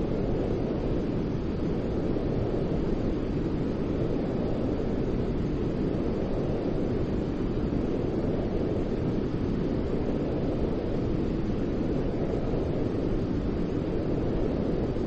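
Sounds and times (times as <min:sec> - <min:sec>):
white noise hiss: 0:00.0 - 0:15.0.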